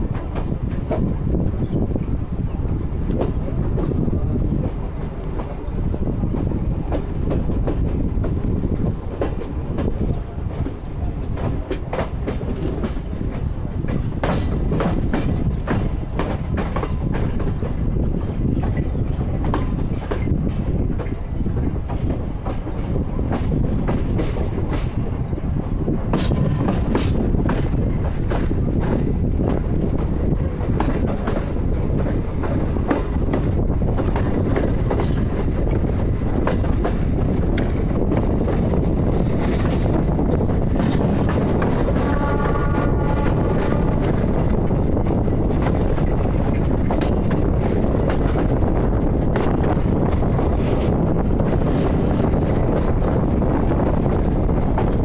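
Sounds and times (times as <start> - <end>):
train rumble and wind rush: 0.0 - 55.0
train wheels clattering over rail joints: 0.0 - 55.0.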